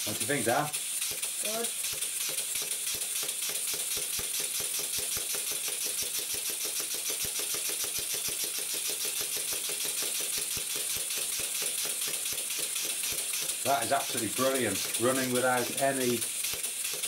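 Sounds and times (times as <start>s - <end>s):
steam engine puffing and clicking: 0.0s - 17.0s
steam hiss: 0.0s - 17.0s.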